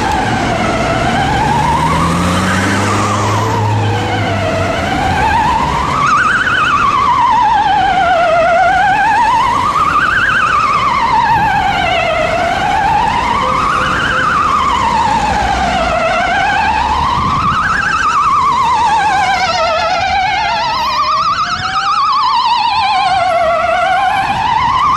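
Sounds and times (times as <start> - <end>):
ambulance siren wailing: 0.0 - 24.9
second siren: 0.0 - 24.9.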